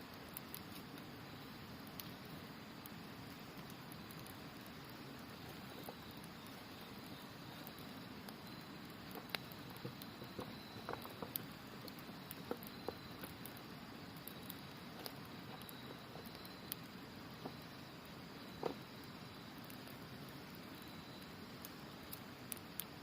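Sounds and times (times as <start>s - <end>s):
campfire crackling and popping: 0.0s - 23.0s
high insect trill: 0.0s - 23.0s.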